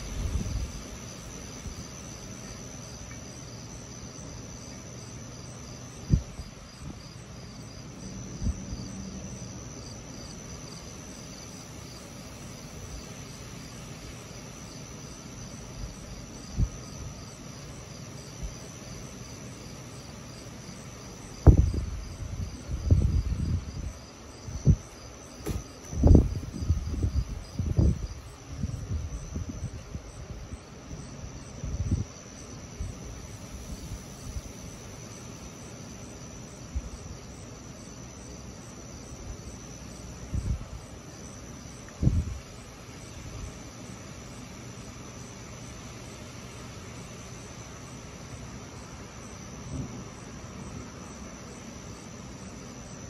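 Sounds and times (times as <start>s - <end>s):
crickets chirping: 0.0s - 53.0s.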